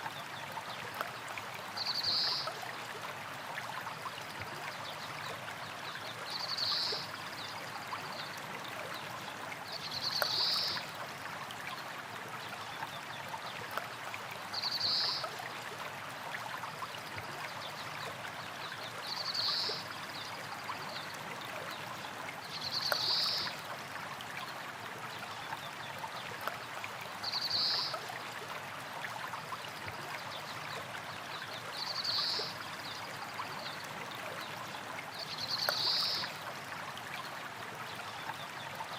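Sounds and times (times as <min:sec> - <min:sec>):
water trickling over stones: 0:00.0 - 0:38.9.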